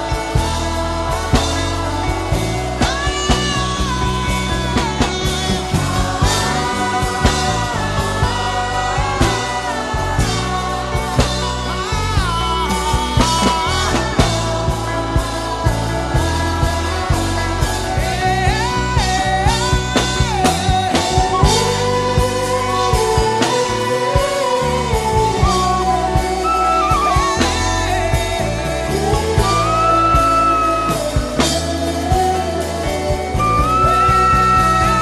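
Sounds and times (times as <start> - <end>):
band with drum beat and bass: 0.0 - 35.0
hummed melody: 0.0 - 35.0.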